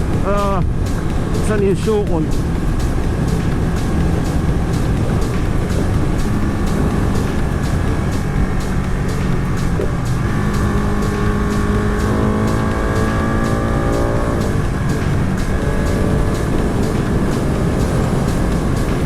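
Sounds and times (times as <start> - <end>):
background music with steady beat: 0.0 - 19.0
heavy wind rush: 0.0 - 19.0
motorcycle engine revving: 0.0 - 19.0.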